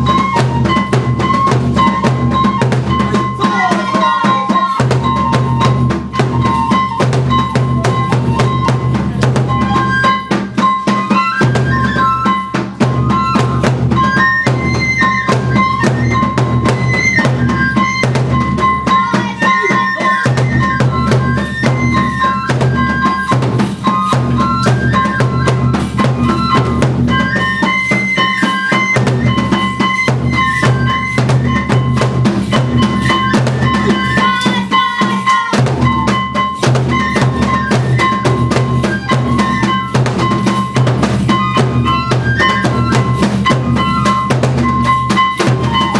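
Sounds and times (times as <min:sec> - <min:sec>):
flute melody: 0:00.0 - 0:45.9
taiko drums beaten rapidly: 0:00.0 - 0:45.9.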